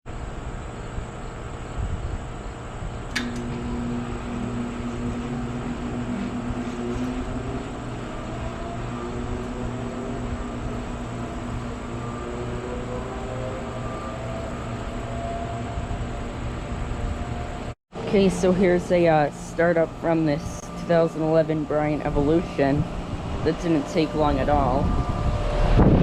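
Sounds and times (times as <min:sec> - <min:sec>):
heat pump humming and whining: 0:00.1 - 0:26.0.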